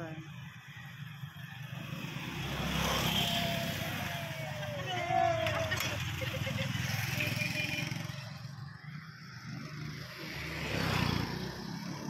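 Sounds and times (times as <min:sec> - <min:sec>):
road noise rushing: 0:01.6 - 0:12.0.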